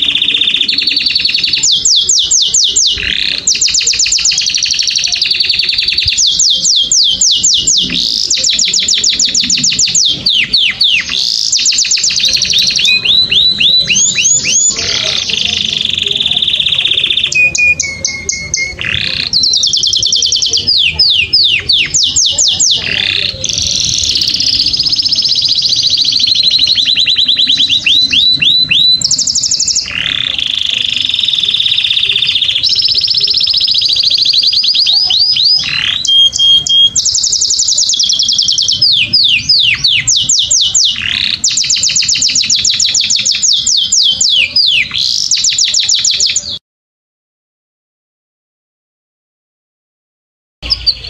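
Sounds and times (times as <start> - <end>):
canary singing trills: 0.0 - 46.6, 50.6 - 51.0.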